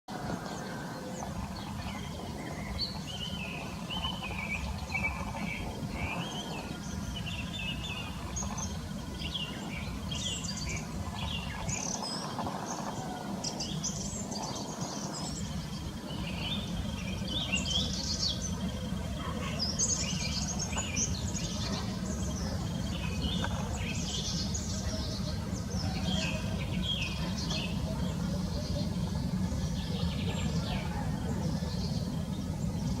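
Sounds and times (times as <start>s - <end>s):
low background rumble: 0.1s - 33.0s
small birds chirping and singing: 0.1s - 33.0s.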